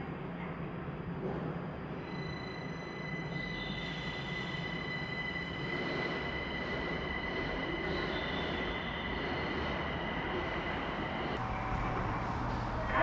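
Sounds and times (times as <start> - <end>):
maglev train high whine: 0.0 - 13.0.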